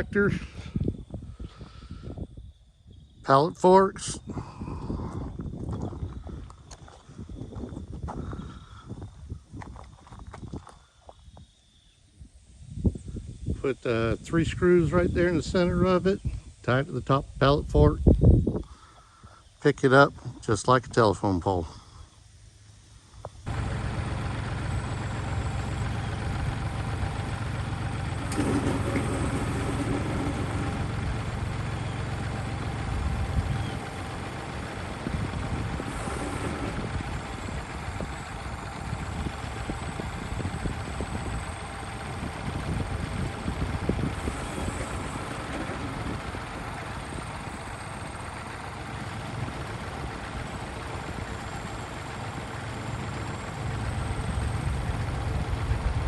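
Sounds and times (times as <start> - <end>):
tractor diesel engine running: 0.0 - 11.4, 13.2 - 56.0.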